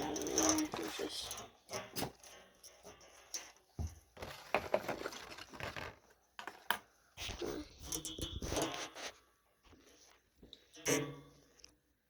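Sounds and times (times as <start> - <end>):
small objects handled by hand: 0.0 - 11.0.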